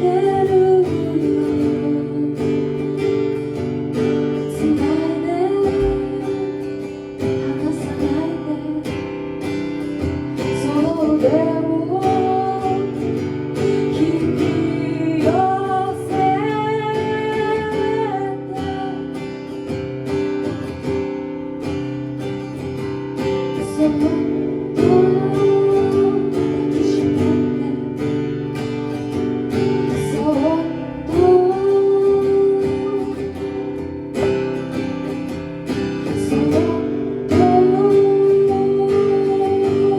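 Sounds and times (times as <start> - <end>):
acoustic guitar: 0.0 - 39.9.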